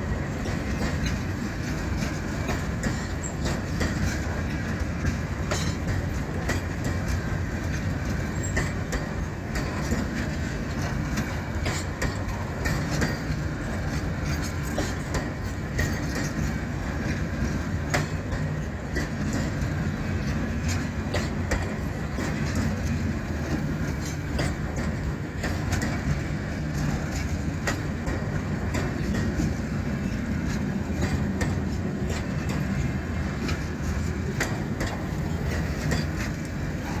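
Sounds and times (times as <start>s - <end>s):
freight train rumbling past: 0.0s - 37.0s
train wheels clicking over rail joints: 0.0s - 37.0s.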